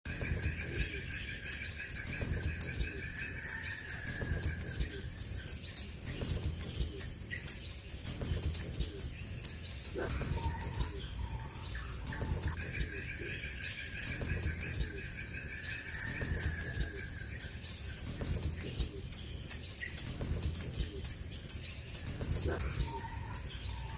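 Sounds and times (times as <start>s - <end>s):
low thumps: 0.1s - 3.4s, 4.0s - 23.9s
bird calling high chips: 0.1s - 23.9s.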